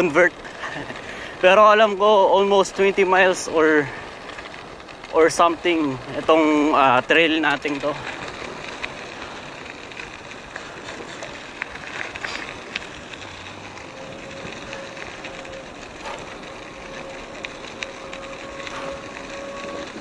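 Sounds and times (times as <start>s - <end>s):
bike tyres crunching on gravel: 0.0s - 20.0s
stones ticking: 0.0s - 20.0s.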